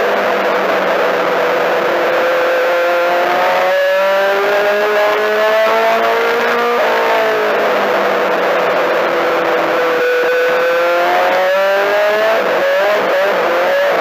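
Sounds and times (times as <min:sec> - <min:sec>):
race car engine revving: 0:00.0 - 0:14.0.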